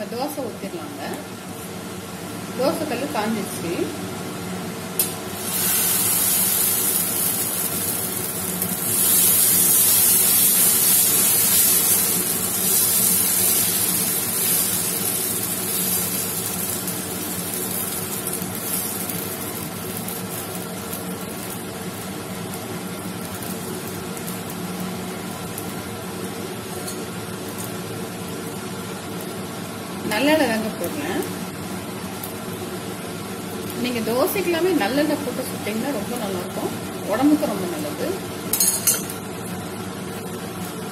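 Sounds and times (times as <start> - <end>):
steady hum: 0.0 - 40.9
batter sizzling on a griddle: 4.9 - 40.9.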